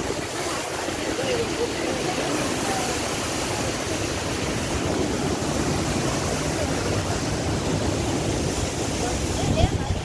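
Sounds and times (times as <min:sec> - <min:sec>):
water rushing down spillway: 0:00.0 - 0:10.0.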